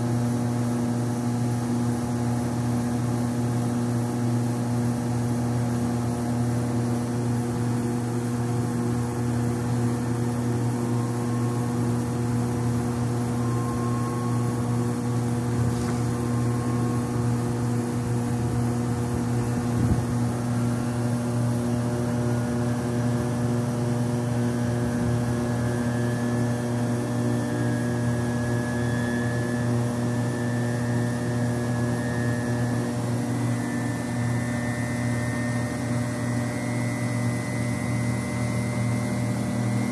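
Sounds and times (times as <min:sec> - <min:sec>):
centrifuge hum with rising whine: 0:00.0 - 0:39.9.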